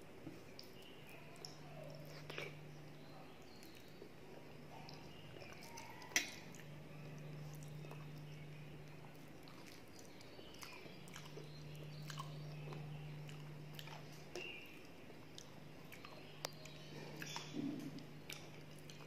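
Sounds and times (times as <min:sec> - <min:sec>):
low hum: 0:00.0 - 0:19.0
person chewing food: 0:00.3 - 0:19.0.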